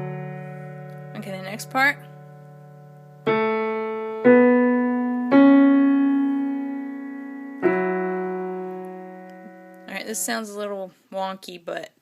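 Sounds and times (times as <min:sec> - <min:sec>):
piano notes ringing: 0:00.0 - 0:10.8.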